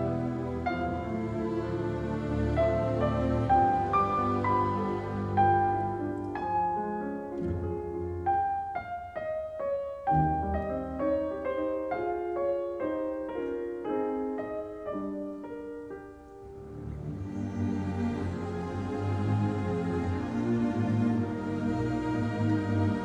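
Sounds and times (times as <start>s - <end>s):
slow classical piano piece: 0.0s - 23.0s.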